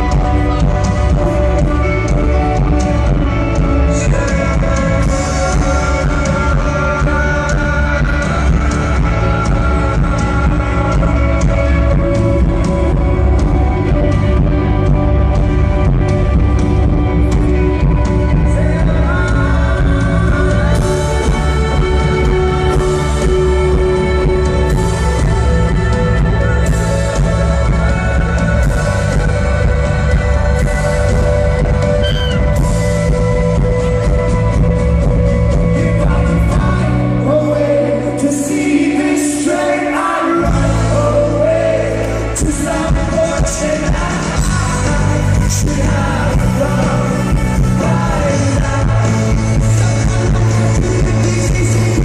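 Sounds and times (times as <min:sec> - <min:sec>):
lead vocal singing: 0:00.0 - 0:52.0
live rock band playing: 0:00.0 - 0:52.0.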